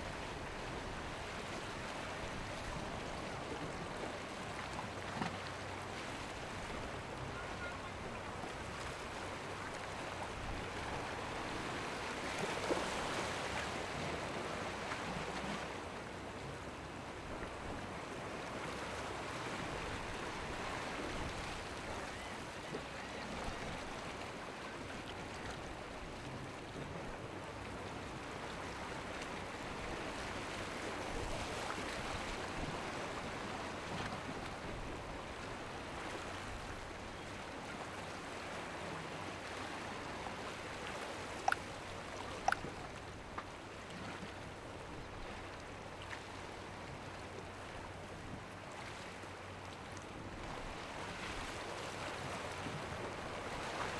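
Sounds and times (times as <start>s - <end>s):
boat wake splashing: 0.0s - 53.9s
rough choppy waves: 0.0s - 53.9s
wind: 0.0s - 53.9s.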